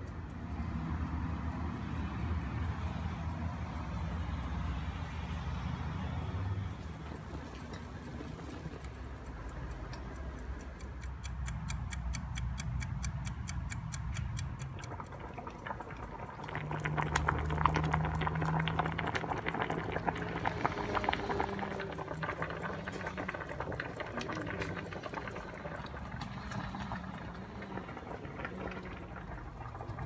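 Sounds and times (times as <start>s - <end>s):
kitchen timer ticking: 0.0s - 30.0s
pot boiling and bubbling: 0.0s - 30.0s.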